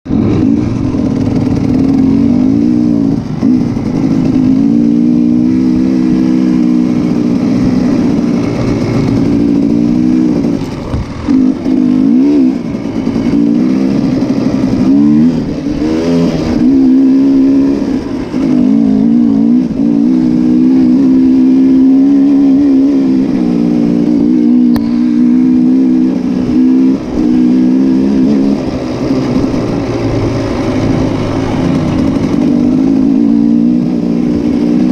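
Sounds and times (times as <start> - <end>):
motocross engines revving: 0.1 - 34.9.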